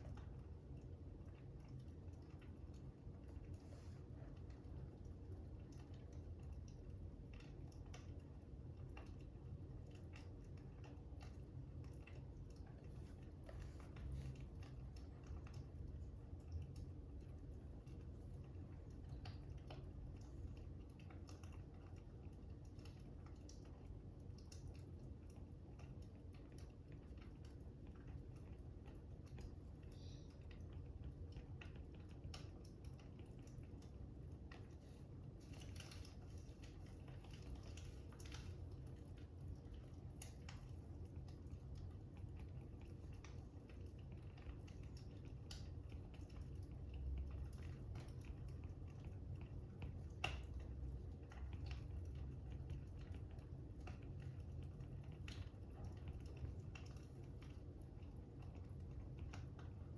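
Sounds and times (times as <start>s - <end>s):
low steady rumble: 0.0s - 59.9s
fire crackling: 4.8s - 59.9s.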